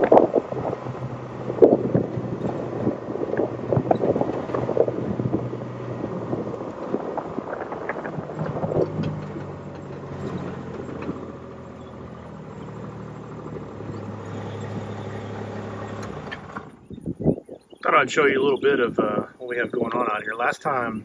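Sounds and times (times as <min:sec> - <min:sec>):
vehicle engine running at low speed: 0:00.0 - 0:21.0.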